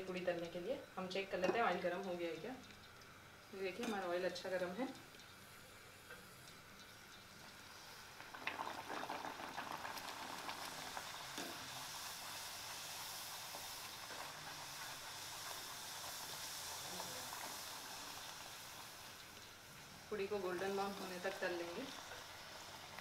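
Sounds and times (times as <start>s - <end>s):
hot oil sizzling and bubbling: 0.0s - 23.0s.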